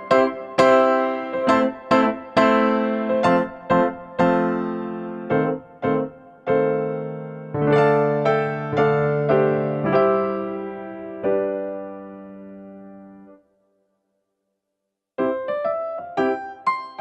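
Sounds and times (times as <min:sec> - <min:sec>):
keyboard playing piano notes: 0:00.0 - 0:13.4, 0:15.2 - 0:17.0.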